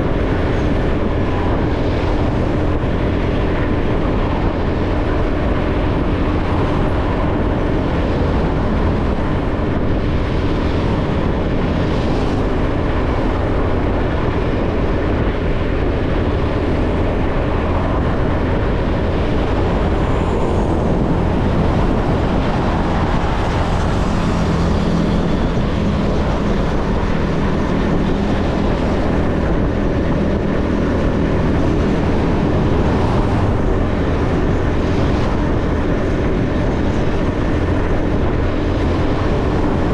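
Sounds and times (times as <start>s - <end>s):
motorbike engine hum: 0.0s - 39.9s
wind and road noise: 0.0s - 39.9s.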